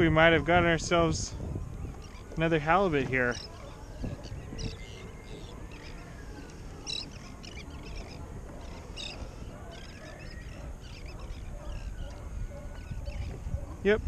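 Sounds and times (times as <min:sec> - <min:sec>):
wind rumble on microphone: 0:00.0 - 0:14.0
birds calling: 0:00.9 - 0:14.0.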